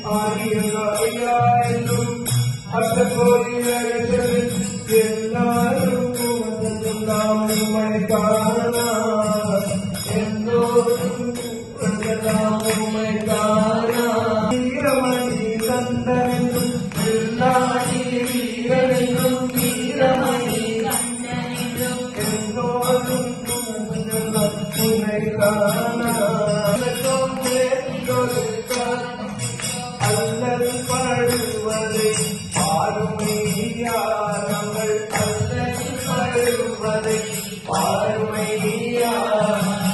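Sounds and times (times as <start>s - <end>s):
jingling beat: 0.0s - 39.9s
man singing into microphone: 0.0s - 39.9s.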